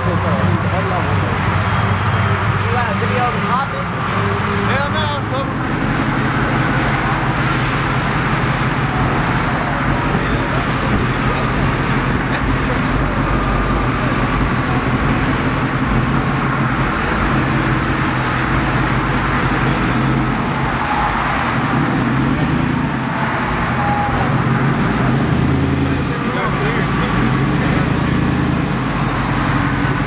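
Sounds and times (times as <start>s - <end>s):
road traffic: 0.0s - 30.0s
truck engine running: 0.0s - 30.0s.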